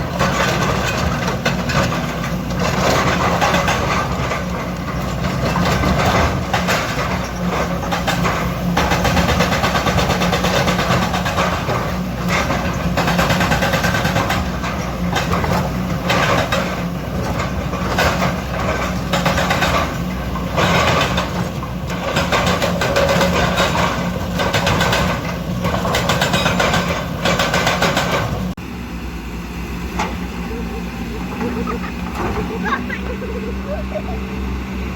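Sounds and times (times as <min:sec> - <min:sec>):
clatter of machinery and rock: 0:00.0 - 0:28.6
diesel engine humming: 0:00.0 - 0:34.9.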